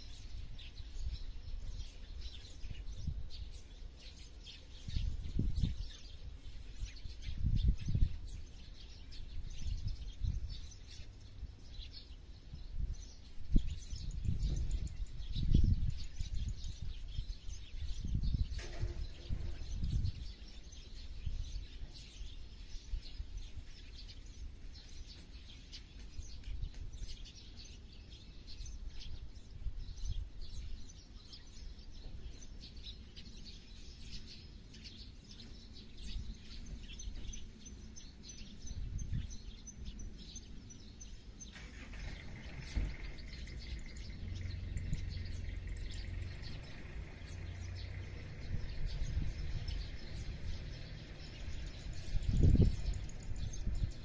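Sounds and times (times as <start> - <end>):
birds chirping and singing: 0.0 - 54.0.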